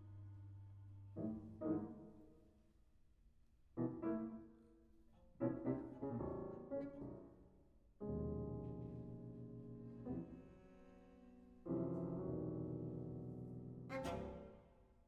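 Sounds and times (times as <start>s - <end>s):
piano trio chamber music: 0.0s - 2.4s, 3.8s - 14.6s.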